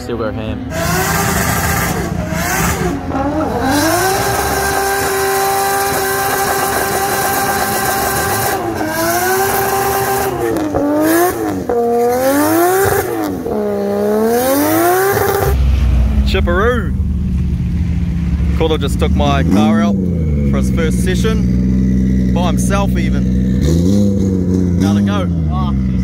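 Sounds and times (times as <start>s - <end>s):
car engine revving hard: 0.7s - 16.0s, 18.6s - 26.0s.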